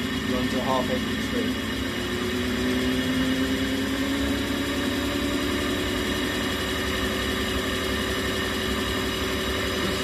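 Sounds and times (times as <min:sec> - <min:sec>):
mechanical hum of test machine: 0:00.0 - 0:10.0.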